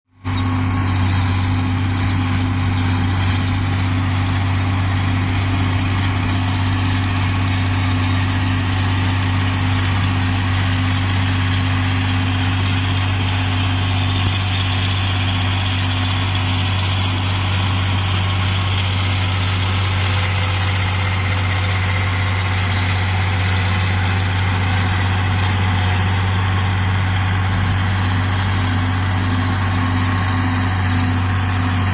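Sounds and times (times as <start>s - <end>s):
tractor engine droning: 0.1s - 31.9s.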